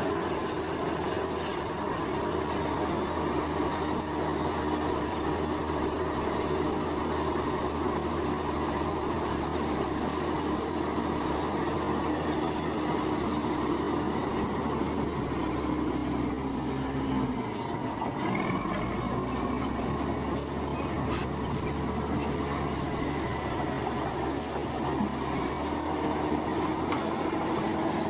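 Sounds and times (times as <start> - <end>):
bulldozer diesel engine running: 0.0 - 28.0
steel tracks squealing and rattling: 0.0 - 28.0.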